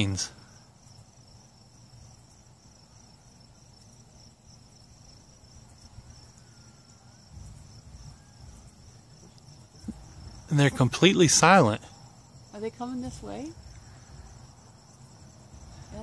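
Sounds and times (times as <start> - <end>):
faint crickets chirping: 0.0 - 16.0.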